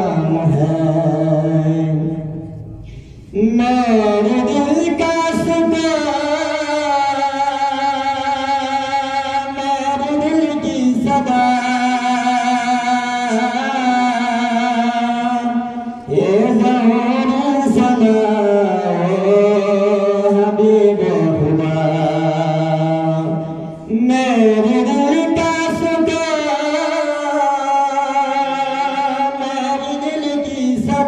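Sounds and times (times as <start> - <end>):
solo voice singing unaccompanied: 3.4 - 31.0.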